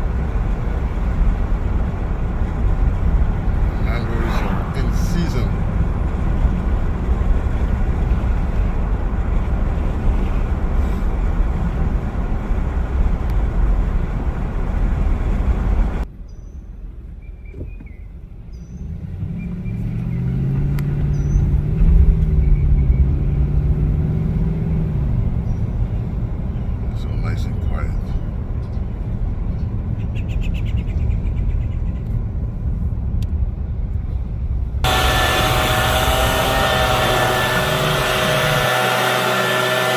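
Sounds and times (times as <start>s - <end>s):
low engine hum: 0.0s - 39.9s
road and wind noise: 0.0s - 39.9s.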